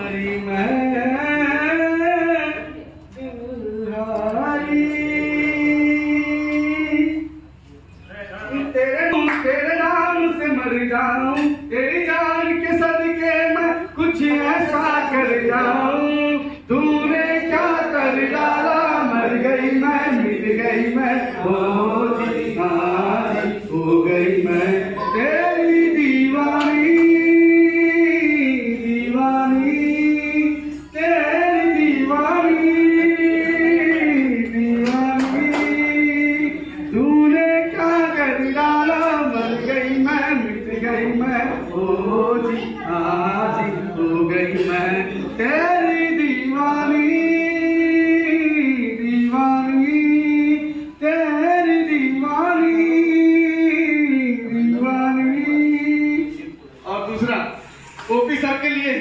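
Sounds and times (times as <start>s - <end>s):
man singing into microphone: 0.0s - 7.6s, 8.5s - 57.4s.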